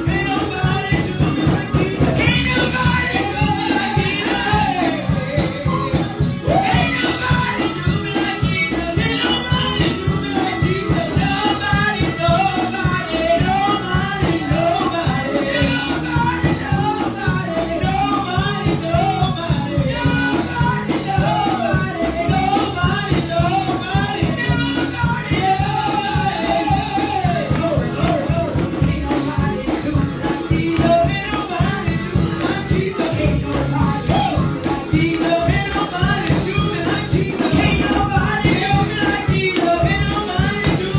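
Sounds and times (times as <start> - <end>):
gospel singing over a band: 0.0 - 40.9
tambourine: 0.0 - 40.9.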